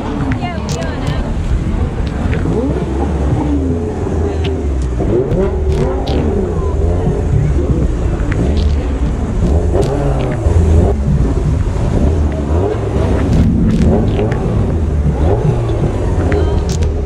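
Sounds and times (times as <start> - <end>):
car engines revving lightly: 0.0 - 17.0
low engine drone: 0.0 - 17.0.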